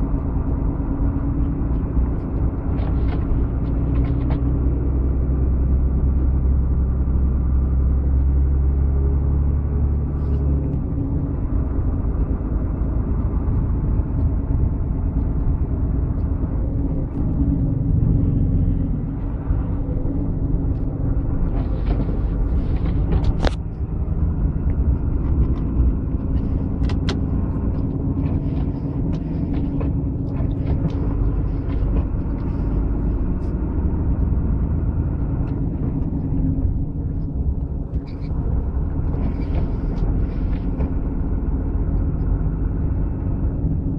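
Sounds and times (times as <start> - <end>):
road rumble: 0.0 - 43.9
vehicle engine hum: 0.0 - 43.9.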